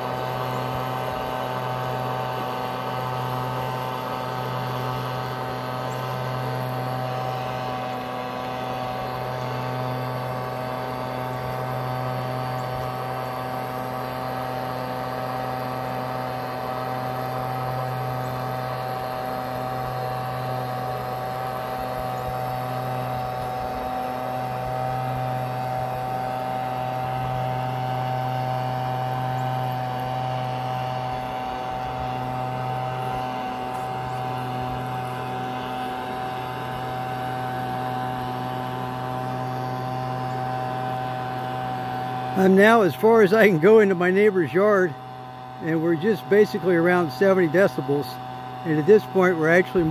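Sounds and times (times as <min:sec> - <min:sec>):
distant leaf blower engine: 0:00.0 - 0:49.9.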